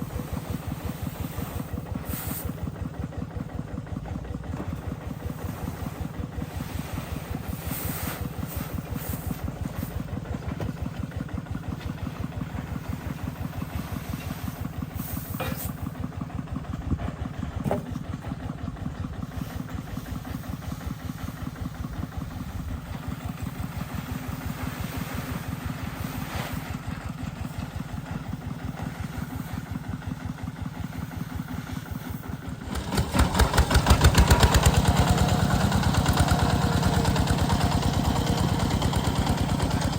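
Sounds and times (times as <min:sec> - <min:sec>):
engine running with fast beat: 0:00.0 - 0:39.9.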